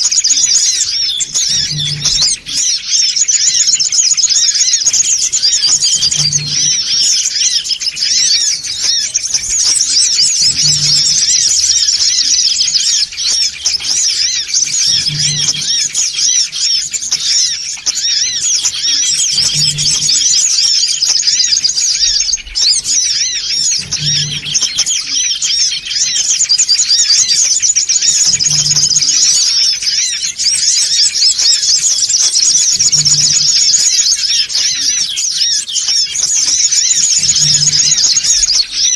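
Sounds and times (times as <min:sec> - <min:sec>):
high-pitched bird chirps: 0:00.0 - 0:38.9.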